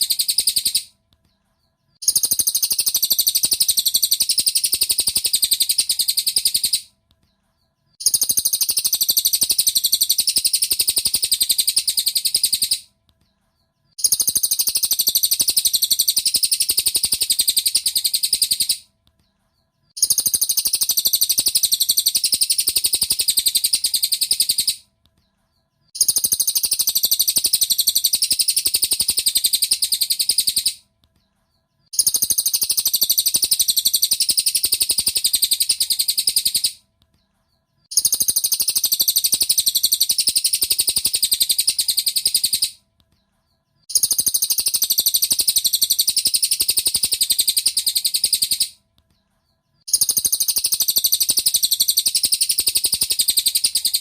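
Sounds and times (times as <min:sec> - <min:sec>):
bird chattering trill: 0:00.0 - 0:00.9, 0:02.0 - 0:06.9, 0:08.0 - 0:12.9, 0:14.0 - 0:18.8, 0:20.0 - 0:24.8, 0:25.9 - 0:30.8, 0:31.9 - 0:36.8, 0:37.9 - 0:42.8, 0:43.9 - 0:48.8, 0:49.8 - 0:54.0.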